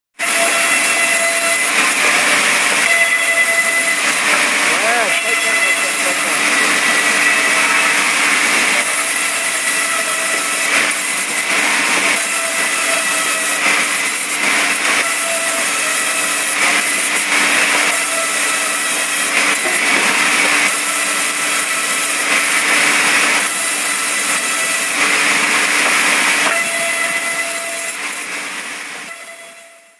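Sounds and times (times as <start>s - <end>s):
bandsaw mill cutting log: 0.2s - 29.9s.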